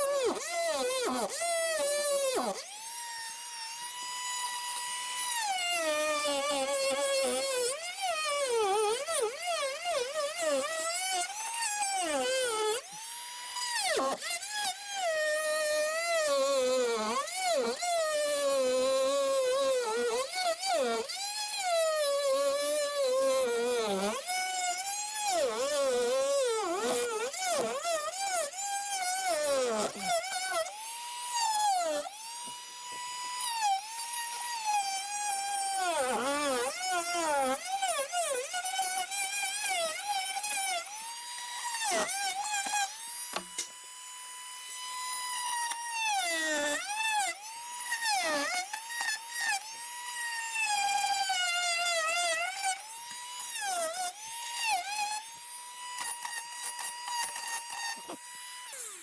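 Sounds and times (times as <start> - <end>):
power drill motor whine: 0.0 - 59.0.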